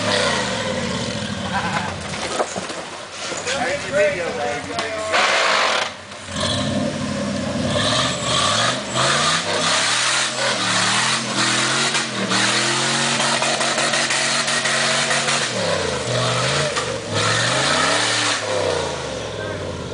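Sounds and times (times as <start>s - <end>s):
buggy engine revving: 0.0s - 2.2s, 5.1s - 19.9s.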